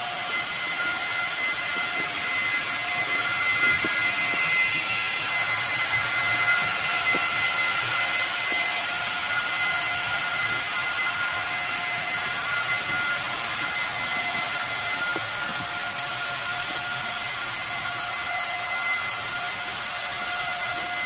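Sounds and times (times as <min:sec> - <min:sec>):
model train motor whine: 0:00.0 - 0:21.0
wheel running hiss: 0:00.0 - 0:21.0.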